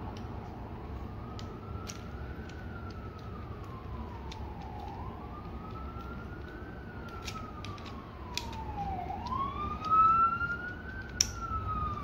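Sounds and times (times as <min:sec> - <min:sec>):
emergency siren wailing: 0:00.1 - 0:12.0
plastic toy parts clicking: 0:01.3 - 0:12.0.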